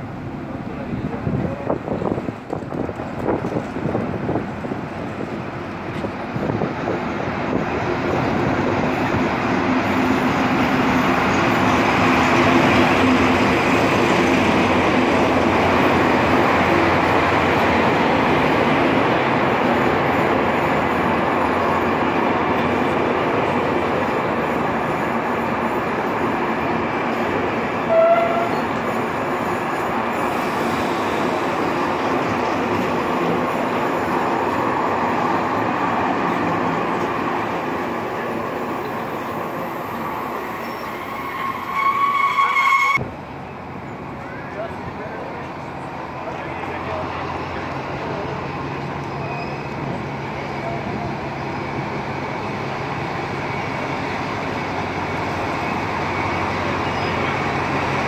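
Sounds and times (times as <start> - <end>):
diesel locomotive engine hum: 0.0 - 58.0
train coaches rolling rumble: 0.0 - 58.0.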